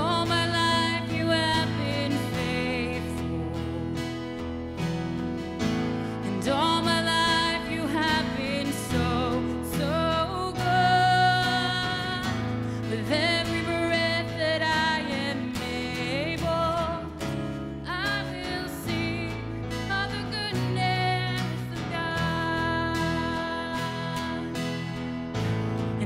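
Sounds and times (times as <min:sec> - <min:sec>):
woman singing with vibrato: 0:00.0 - 0:04.3, 0:06.2 - 0:24.8
acoustic guitar: 0:00.0 - 0:26.0.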